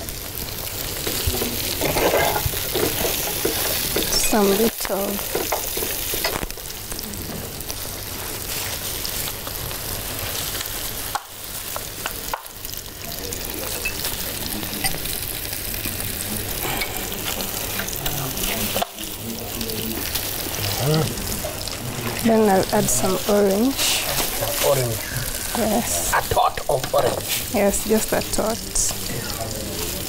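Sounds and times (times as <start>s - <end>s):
ribs sizzling in sauce: 0.0s - 30.0s.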